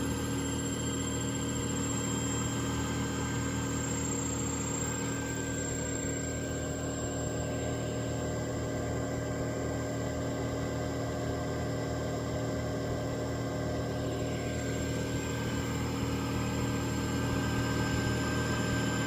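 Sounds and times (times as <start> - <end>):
ventilation fan humming and whining: 0.0 - 19.0.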